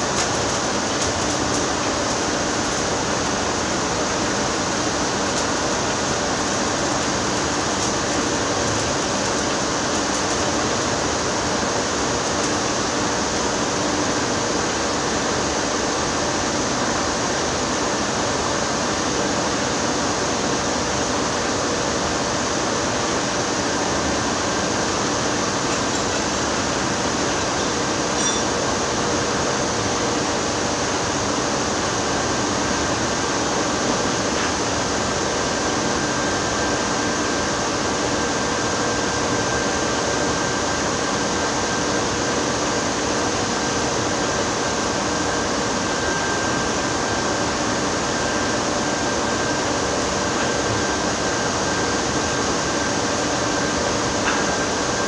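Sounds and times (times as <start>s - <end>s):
industrial machinery roar: 0.0s - 55.0s.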